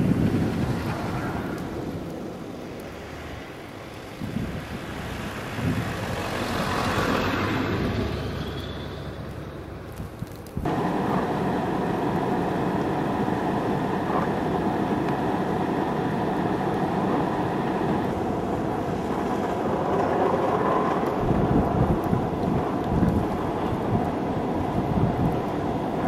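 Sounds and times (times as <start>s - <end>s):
low rumbling gusts: 0.0s - 8.4s, 9.2s - 26.0s
wind rushing across microphone: 0.0s - 8.4s, 9.7s - 26.0s.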